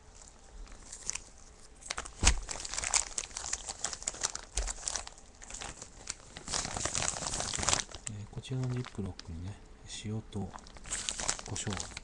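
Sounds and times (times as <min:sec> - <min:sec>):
plastic bag crinkling: 0:00.0 - 0:09.5, 0:10.4 - 0:12.0.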